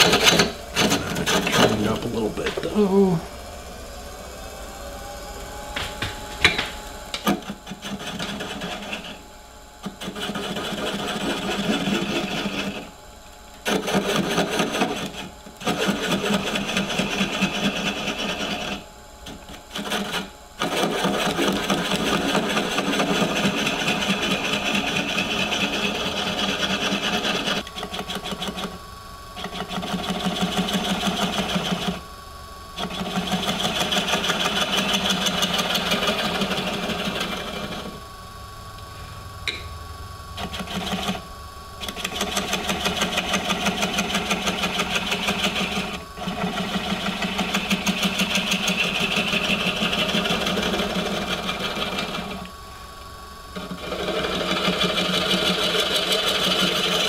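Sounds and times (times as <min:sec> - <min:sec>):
gouge cutting wood on lathe: 0:00.0 - 0:02.9, 0:05.8 - 0:09.2, 0:09.8 - 0:13.0, 0:13.6 - 0:28.8, 0:29.4 - 0:32.0, 0:32.8 - 0:38.0, 0:40.4 - 0:41.2, 0:41.8 - 0:52.5, 0:53.6 - 0:57.0.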